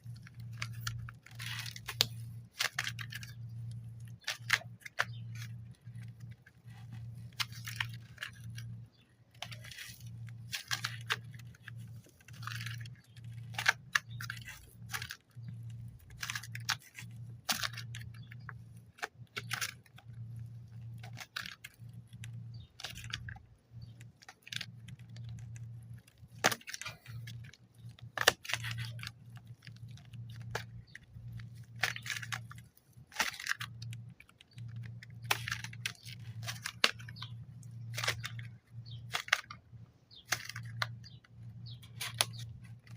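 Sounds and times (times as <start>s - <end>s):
packaging crinkling and tearing: 0.0s - 42.9s
steady low hum: 0.0s - 42.9s.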